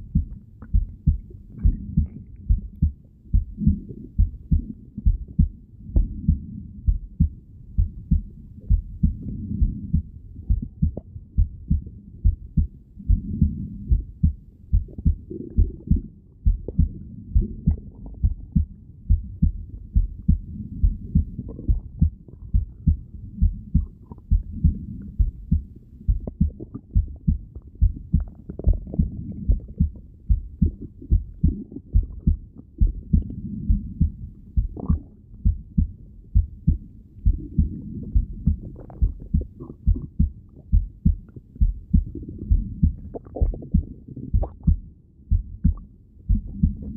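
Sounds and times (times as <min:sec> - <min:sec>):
heartbeat through stethoscope: 0:00.0 - 0:46.9.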